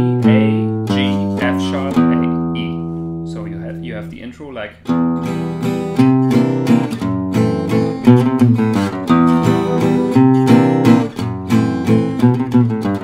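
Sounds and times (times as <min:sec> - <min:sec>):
acoustic guitar strummed in waltz time: 0:00.0 - 0:03.4, 0:04.8 - 0:13.0.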